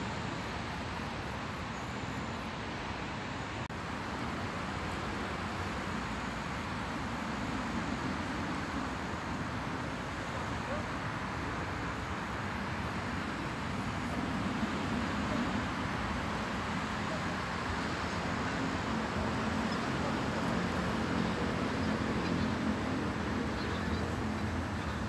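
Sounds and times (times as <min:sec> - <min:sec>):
distant road traffic hum: 0:00.0 - 0:25.0.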